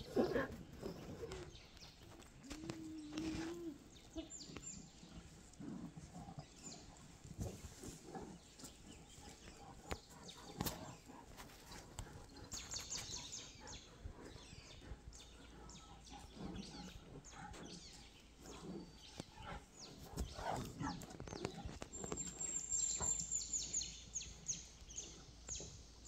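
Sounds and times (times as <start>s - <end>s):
low animal vocal sounds: 0.0s - 26.0s.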